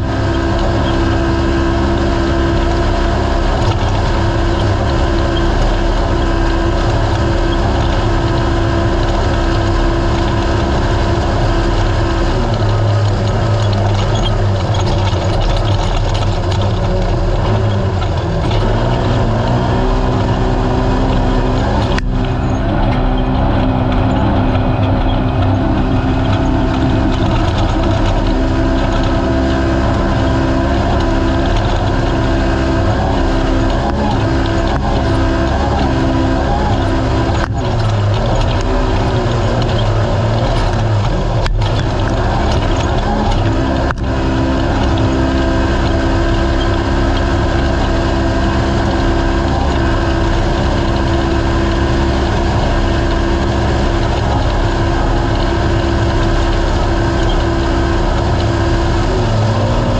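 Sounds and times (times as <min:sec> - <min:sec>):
engine running at high revs: 0:00.0 - 0:59.9.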